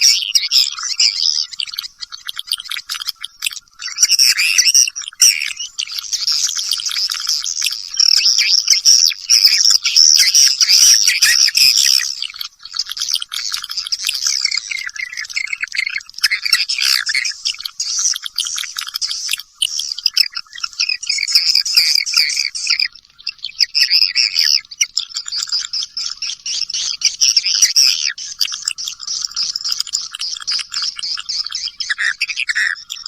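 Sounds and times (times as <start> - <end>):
high twittering bird chirps: 0.0 - 33.0.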